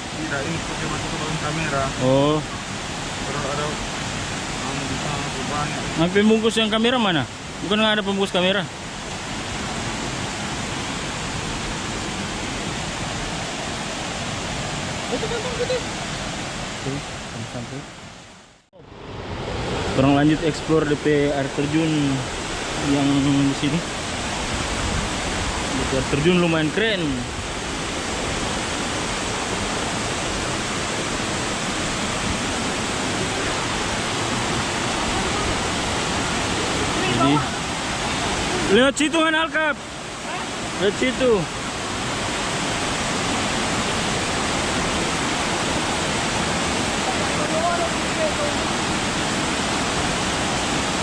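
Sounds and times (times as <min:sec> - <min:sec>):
small waterfall rushing: 0:00.0 - 0:51.0.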